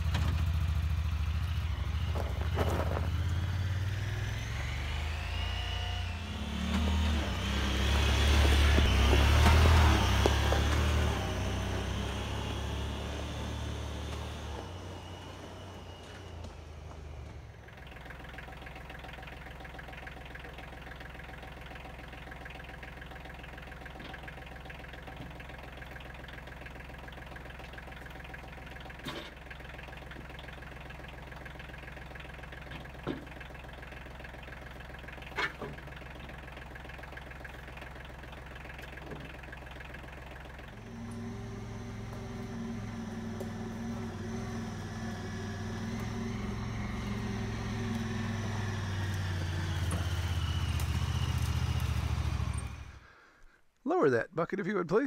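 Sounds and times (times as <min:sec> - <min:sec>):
utility vehicle engine revving: 0:00.0 - 0:53.3
tractor engine idling: 0:00.0 - 0:55.0.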